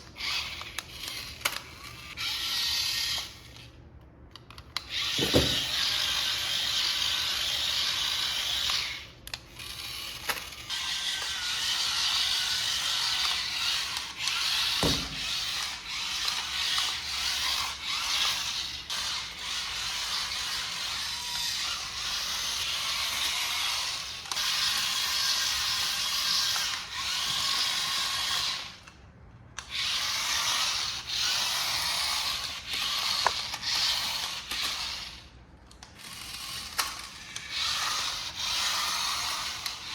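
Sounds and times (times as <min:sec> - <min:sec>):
toy car motor whirring: 0:00.0 - 0:03.8, 0:04.4 - 0:29.0, 0:29.6 - 0:39.9.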